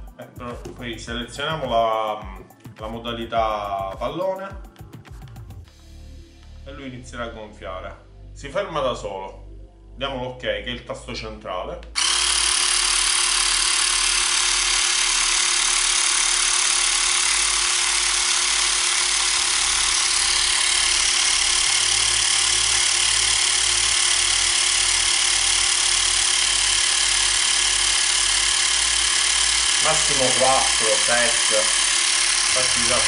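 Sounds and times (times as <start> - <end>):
electric air pump running: 0.0 - 5.6, 12.0 - 33.0.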